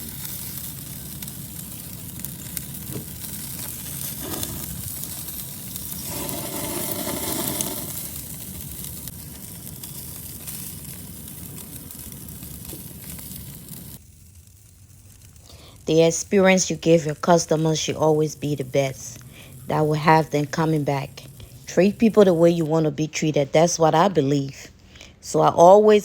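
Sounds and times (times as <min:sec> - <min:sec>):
chicken sizzling on a grill: 0:00.0 - 0:22.5.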